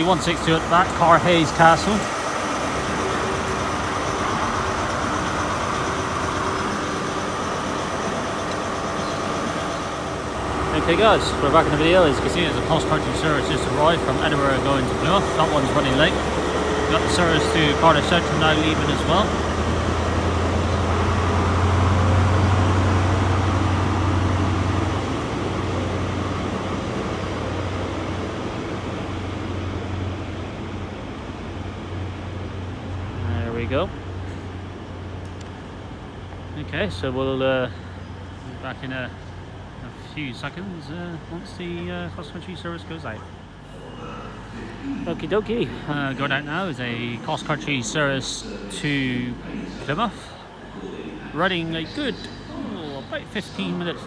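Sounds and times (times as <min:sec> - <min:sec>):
diesel engine drone: 0:00.0 - 0:54.0
faint steady tones: 0:00.0 - 0:54.0.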